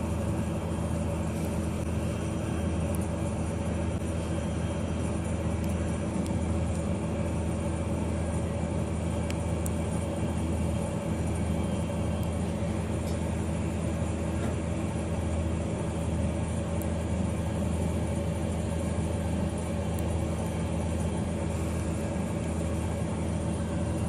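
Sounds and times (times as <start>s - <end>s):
low machine hum with tones: 0.0s - 24.0s.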